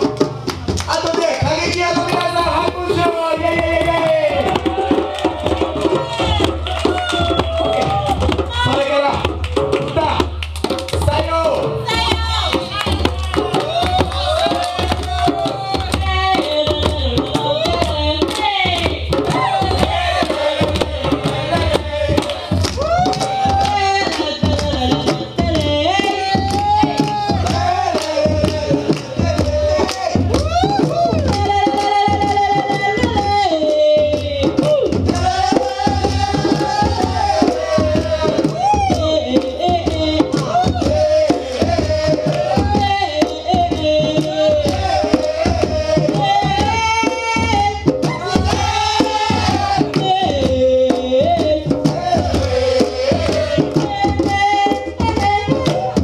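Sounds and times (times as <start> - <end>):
djembe drums playing: 0.0 - 56.0.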